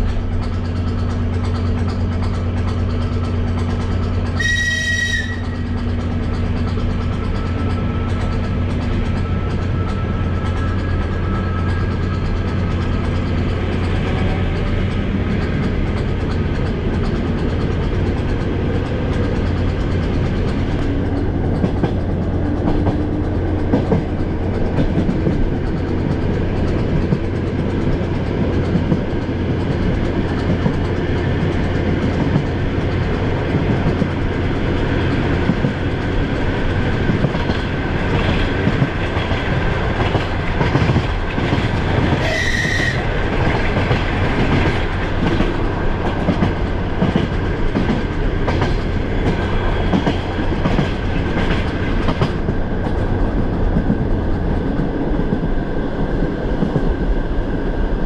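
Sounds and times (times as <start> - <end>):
wheels clacking over rail joints: 0.0 - 57.1
train rumble and hum: 0.0 - 58.0.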